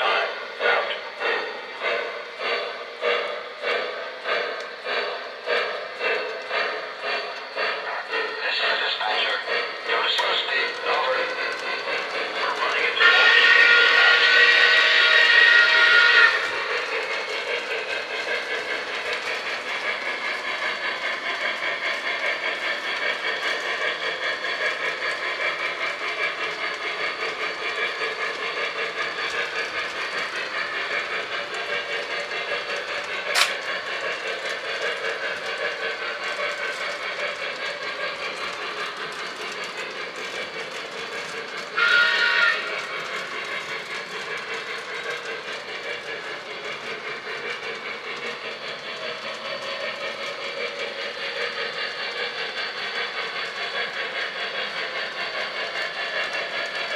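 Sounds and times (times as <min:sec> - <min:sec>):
model steam locomotive running: 0:00.0 - 0:56.9.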